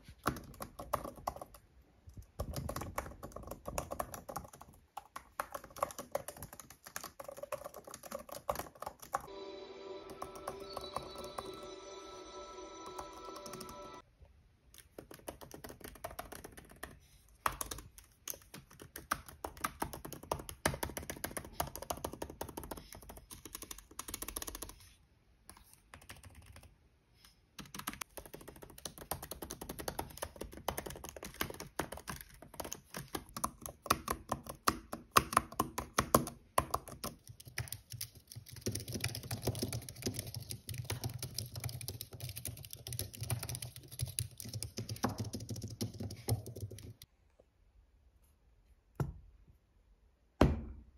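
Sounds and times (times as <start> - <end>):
fast keyboard typing: 0.1 - 14.0, 14.8 - 24.8, 25.5 - 26.8, 27.6 - 47.1.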